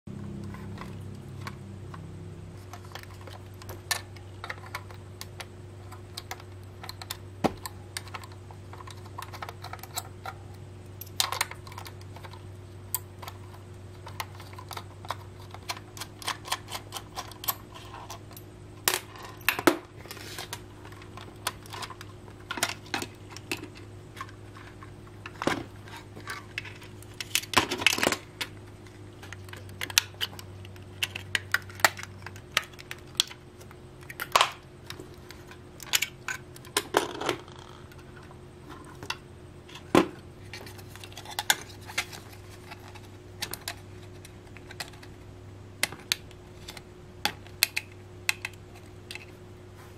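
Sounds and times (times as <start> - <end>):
steady low hum: 0.1 - 49.9
small parts clicking on desk: 2.6 - 45.2, 45.8 - 49.3.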